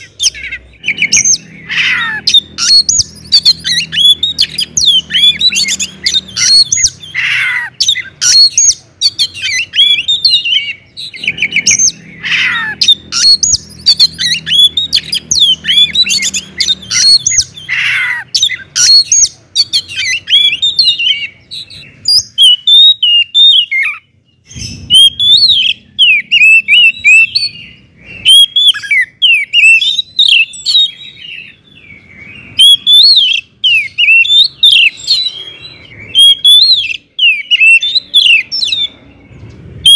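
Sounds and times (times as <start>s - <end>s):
bird singing: 0.0s - 39.9s
harsh falling bird calls: 0.0s - 39.9s.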